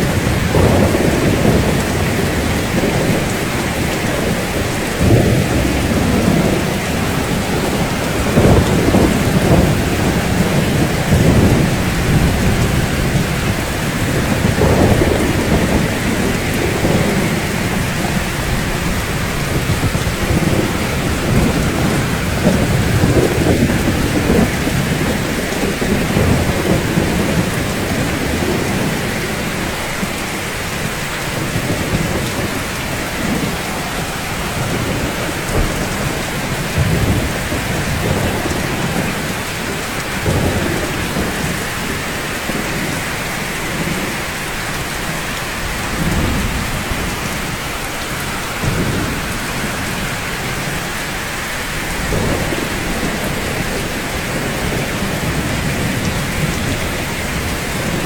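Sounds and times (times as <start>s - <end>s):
rain on rooftops: 0.0s - 58.0s.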